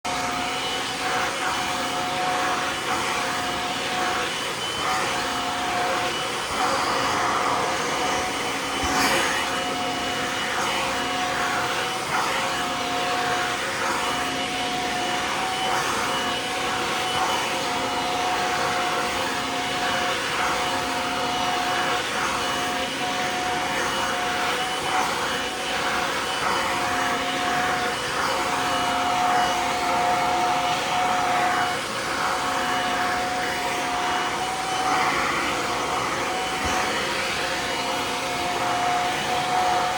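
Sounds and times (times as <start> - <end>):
vacuum cleaner whine: 0.0 - 39.9.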